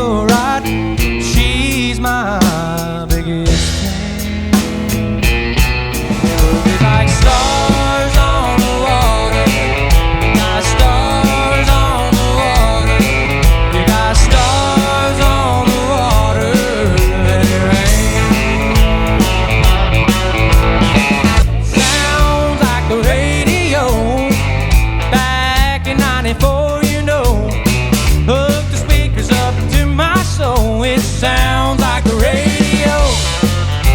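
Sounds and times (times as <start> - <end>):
band music with drums and bass: 0.0 - 33.9.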